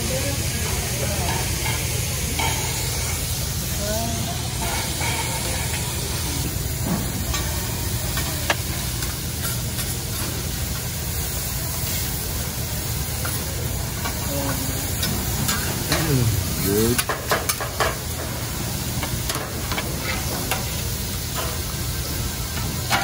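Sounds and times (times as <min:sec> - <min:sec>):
food sizzling on griddle: 0:00.0 - 0:23.0.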